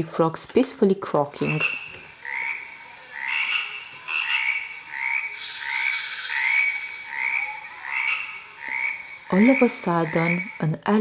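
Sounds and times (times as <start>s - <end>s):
tree frogs croaking: 0.0s - 11.0s.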